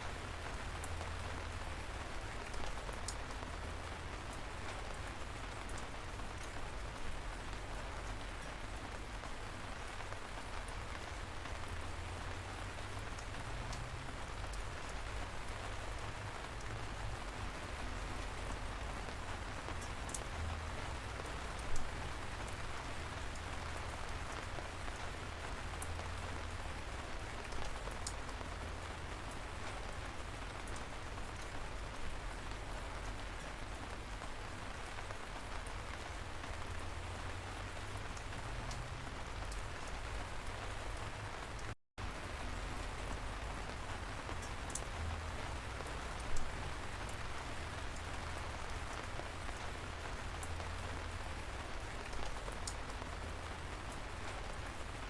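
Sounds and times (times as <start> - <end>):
light rain hiss: 0.0 - 55.0
raindrops ticking: 0.1 - 55.0.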